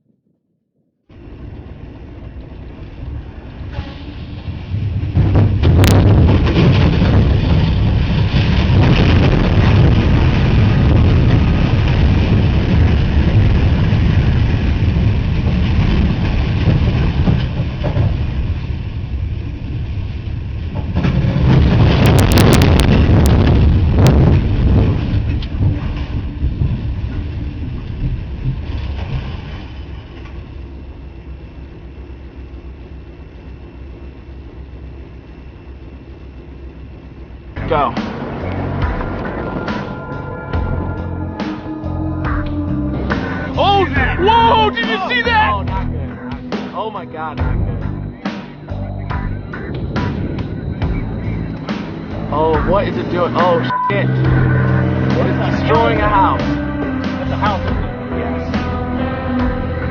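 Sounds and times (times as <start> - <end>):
winds roaring on microphone: 1.1 - 46.6, 47.3 - 59.9.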